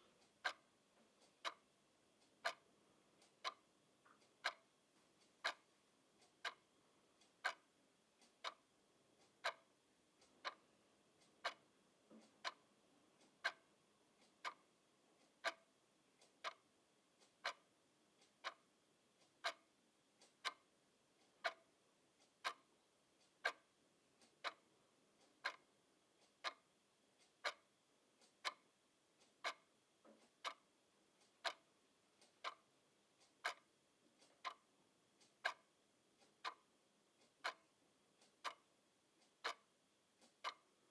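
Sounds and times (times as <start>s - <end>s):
clock ticking: 0.0s - 2.6s, 3.2s - 8.6s, 9.2s - 40.9s.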